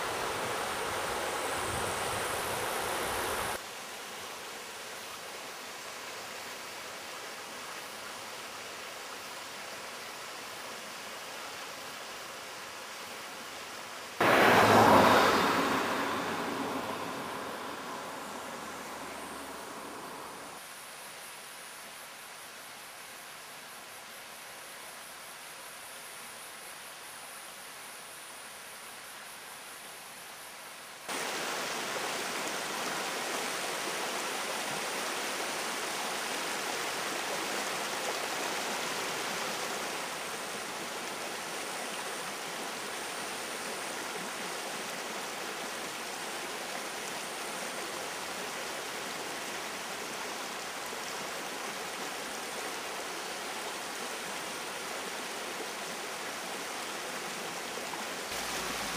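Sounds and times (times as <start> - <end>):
stony stream rushing: 0.0 - 20.7, 31.1 - 58.9.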